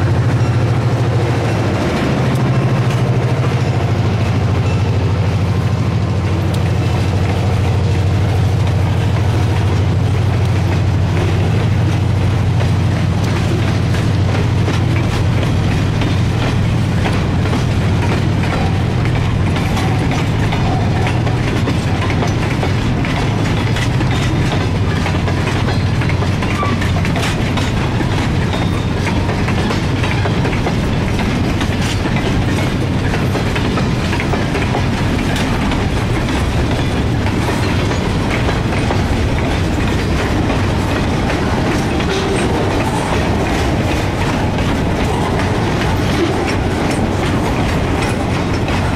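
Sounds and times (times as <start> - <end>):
train wheels clicking over rail joints: 0.0 - 48.9.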